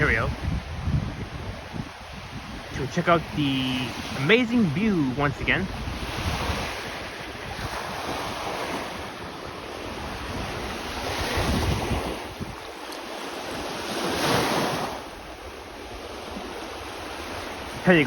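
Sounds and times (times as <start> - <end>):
waves washing onto shore: 0.0 - 18.0
wind buffeting microphone: 0.0 - 18.0.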